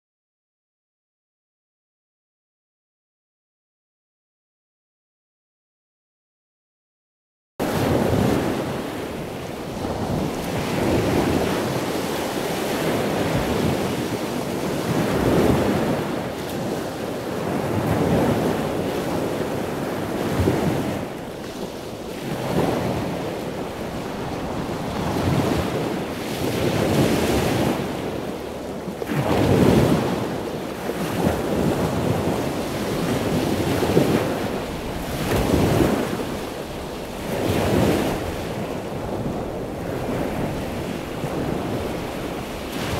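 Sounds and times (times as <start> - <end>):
ocean surf breaking: 7.6 - 42.9
wind buffeting the microphone: 7.6 - 42.9.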